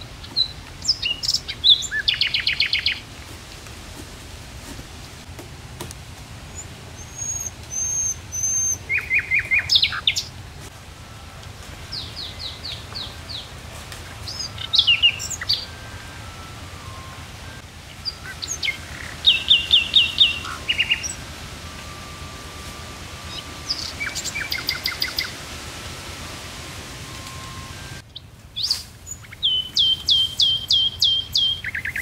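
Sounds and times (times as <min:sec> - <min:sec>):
songbirds chirping and whistling: 0:00.0 - 0:04.8, 0:06.4 - 0:32.0
faint low rumble: 0:00.0 - 0:30.4.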